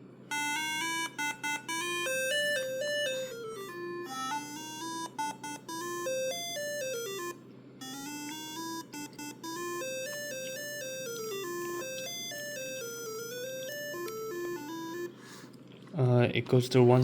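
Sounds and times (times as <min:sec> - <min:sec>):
electronic alarm clock melody: 0:00.3 - 0:15.4.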